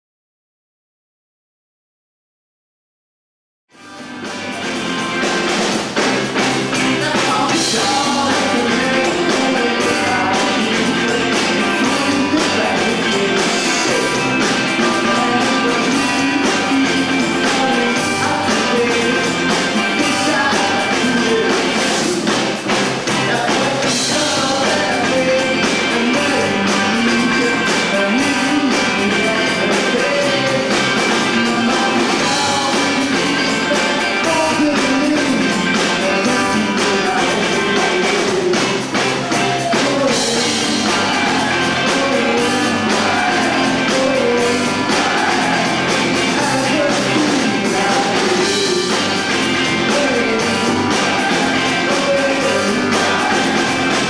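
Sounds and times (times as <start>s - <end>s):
rock band playing live: 3.7s - 54.0s
person singing: 6.7s - 22.5s, 23.1s - 54.0s.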